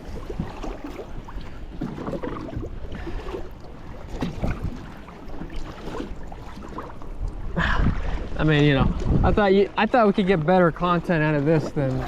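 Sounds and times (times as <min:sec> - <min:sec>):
wind rumble on microphone: 0:00.0 - 0:09.9
paddle blades splashing: 0:00.0 - 0:12.0
water sloshing against hull: 0:00.0 - 0:12.0.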